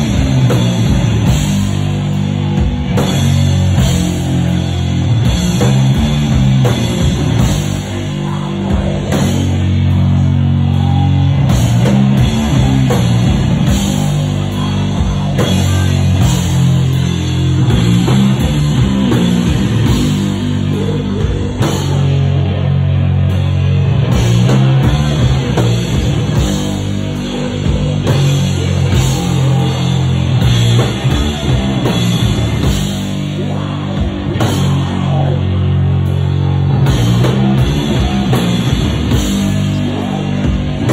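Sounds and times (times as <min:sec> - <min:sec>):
distorted guitar and bass: 0:00.0 - 0:40.9
drum kit: 0:00.0 - 0:40.9.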